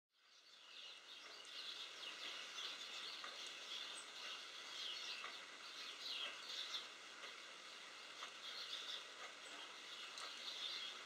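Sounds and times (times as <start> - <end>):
rain hiss: 0.2 - 11.0
small birds chirping: 0.2 - 11.0.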